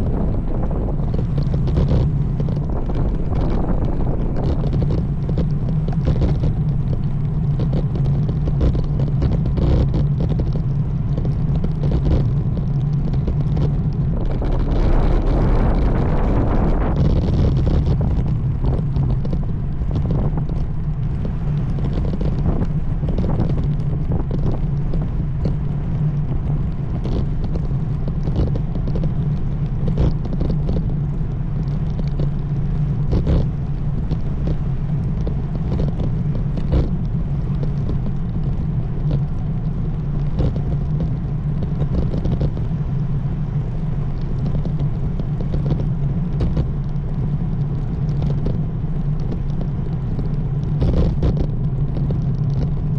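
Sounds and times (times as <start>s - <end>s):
bike rattling over bumps: 0.0s - 52.9s
wind and tyre rumble: 0.0s - 52.9s.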